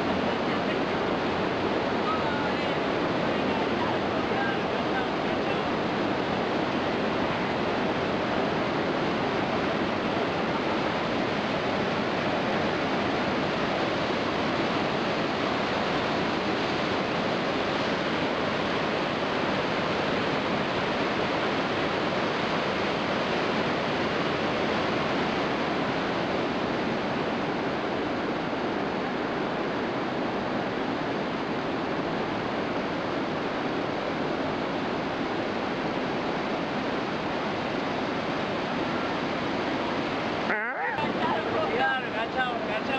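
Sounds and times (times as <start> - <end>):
rush of falling water: 0.0 - 42.9.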